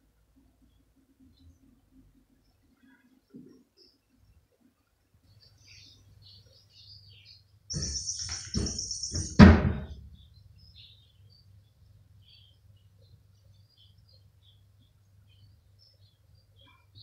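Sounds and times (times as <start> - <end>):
faint bird chirps: 0.6 - 9.4, 10.0 - 17.0.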